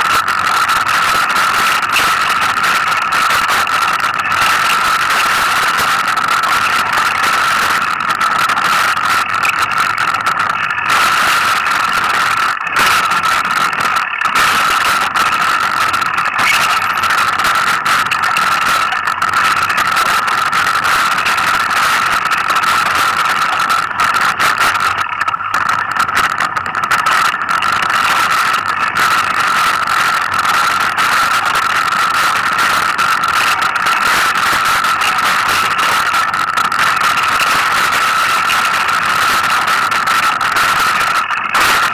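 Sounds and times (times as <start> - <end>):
steady high whine: 0.0 - 41.9.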